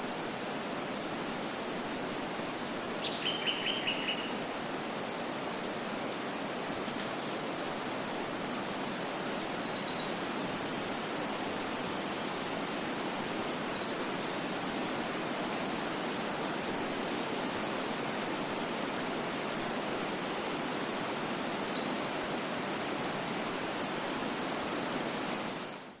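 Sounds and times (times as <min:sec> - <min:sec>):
outdoor ambience hiss: 0:00.0 - 0:26.0.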